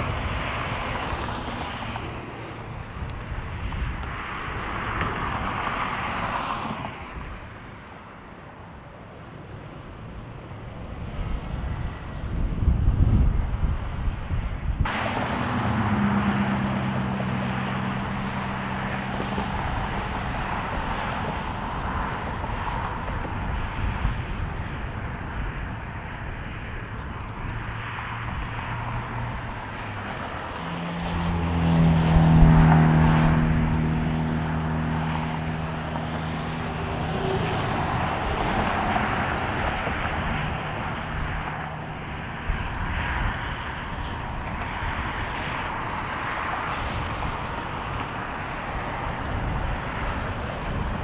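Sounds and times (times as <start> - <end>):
wind buffeting microphone: 0.0 - 51.0
jet airliner taking off: 9.6 - 51.0.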